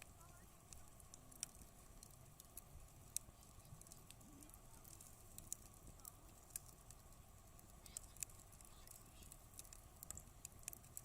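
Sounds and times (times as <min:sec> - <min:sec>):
campfire crackling: 0:00.0 - 0:11.0
fire pops and ticks: 0:00.0 - 0:11.0.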